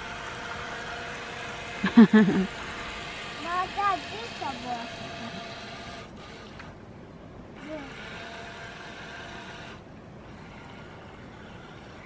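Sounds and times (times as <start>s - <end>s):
toy boat motor whining: 0.0s - 6.8s, 7.6s - 12.0s.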